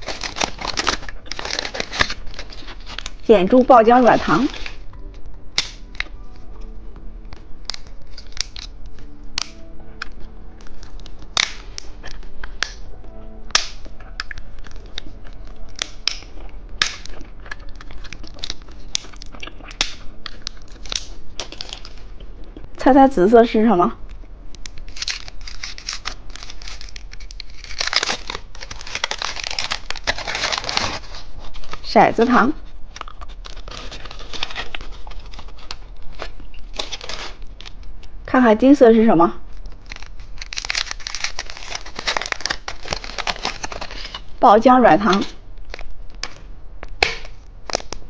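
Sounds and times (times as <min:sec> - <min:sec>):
plastic wrapper crackling: 0:00.0 - 0:06.7, 0:07.3 - 0:12.9, 0:13.5 - 0:22.2, 0:24.1 - 0:38.1, 0:39.4 - 0:44.4, 0:45.0 - 0:48.0
plastic packaging crinkling: 0:00.0 - 0:12.9, 0:13.5 - 0:22.2, 0:24.6 - 0:38.1, 0:39.4 - 0:44.4, 0:45.0 - 0:48.0
soft background music: 0:00.0 - 0:48.0.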